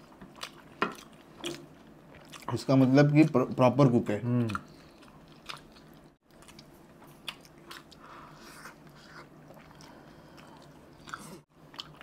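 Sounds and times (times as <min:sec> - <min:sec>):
man chewing food: 0:00.0 - 0:03.6, 0:04.4 - 0:12.0.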